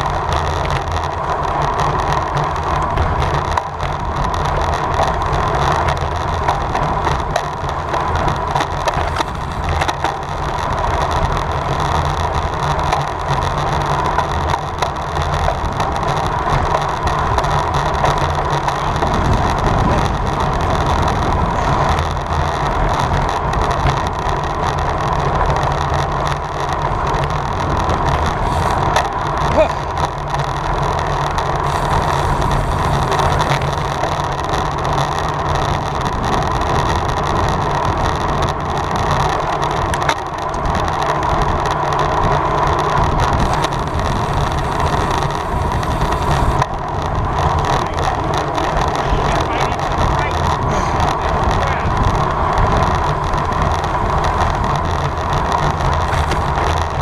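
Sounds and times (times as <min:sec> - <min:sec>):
tyre and road rumble: 0:00.0 - 0:57.0
wind rushing over microphone: 0:00.0 - 0:57.0.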